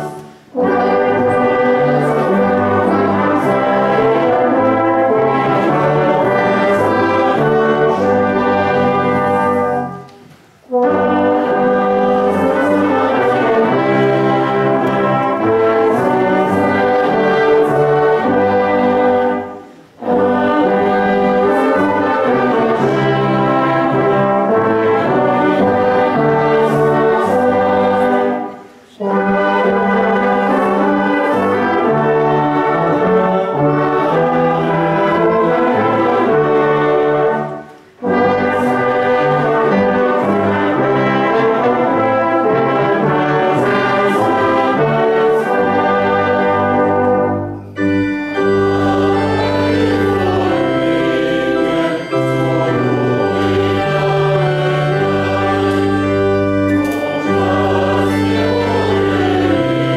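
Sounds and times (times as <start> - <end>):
brass choir playing sustained chords: 0.0 - 59.9.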